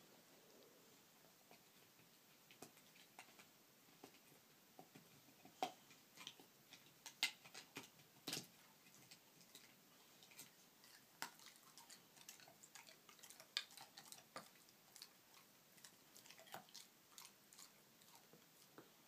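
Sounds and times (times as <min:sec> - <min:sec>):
puppy chewing on hanger: 0:01.4 - 0:18.9.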